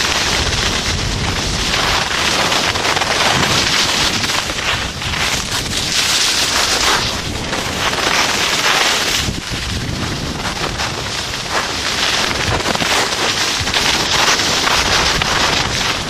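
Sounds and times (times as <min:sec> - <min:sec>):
skis scraping on packed snow: 0:00.0 - 0:16.0
wind rushing over microphone: 0:00.0 - 0:16.0.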